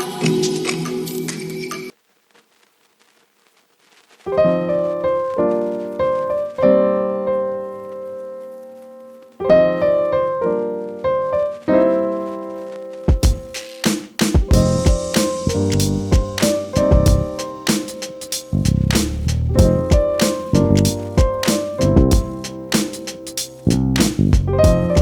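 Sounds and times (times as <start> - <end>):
piano music: 4.3 - 25.0.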